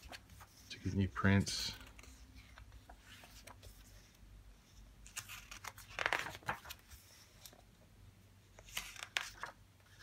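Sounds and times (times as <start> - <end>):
book pages turning: 0.0 - 7.7, 8.5 - 10.0.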